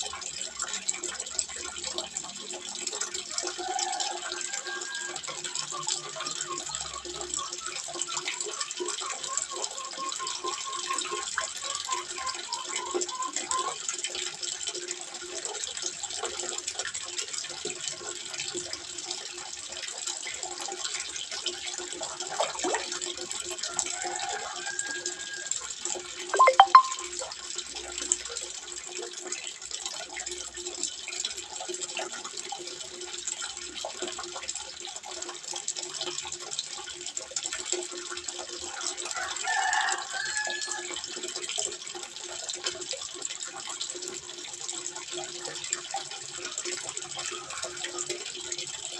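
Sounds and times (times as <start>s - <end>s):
water trickling into pond: 0.0s - 48.9s.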